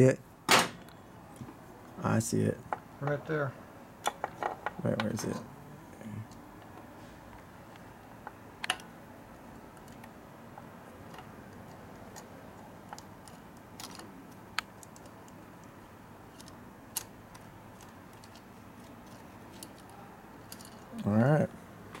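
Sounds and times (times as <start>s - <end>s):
faint background noise: 0.0s - 22.0s.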